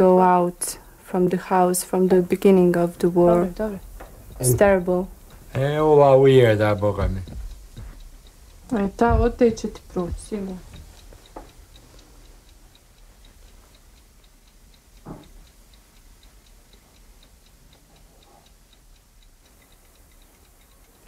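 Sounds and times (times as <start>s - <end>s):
faint mechanical ticking: 0.0s - 21.0s.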